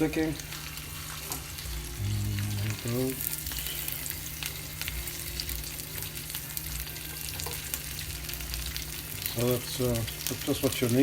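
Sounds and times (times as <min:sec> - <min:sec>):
omelet sizzling in a frying pan: 0:00.0 - 0:11.0.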